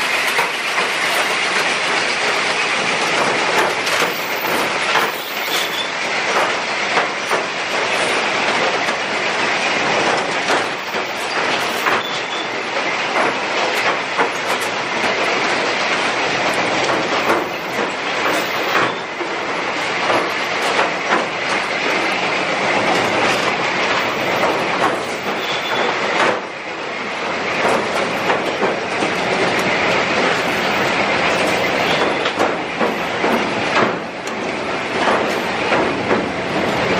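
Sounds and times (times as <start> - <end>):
steady mechanical din: 0.0 - 36.9.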